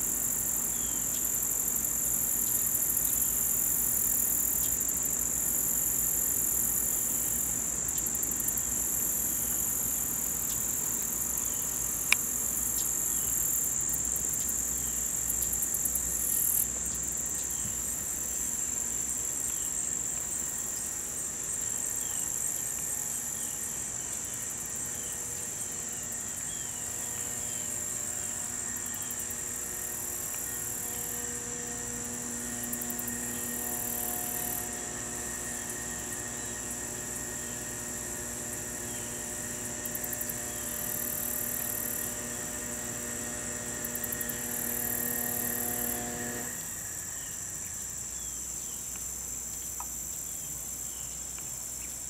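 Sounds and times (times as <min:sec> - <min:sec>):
crickets trilling: 0:00.0 - 0:52.0.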